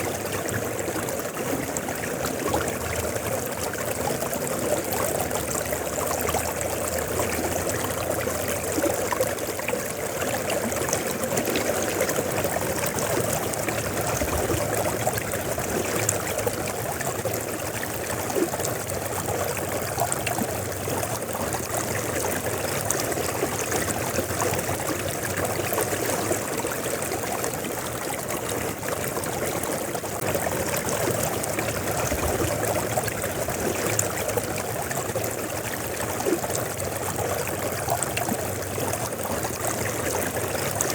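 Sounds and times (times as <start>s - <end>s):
river water rushing and splashing: 0.0s - 40.9s.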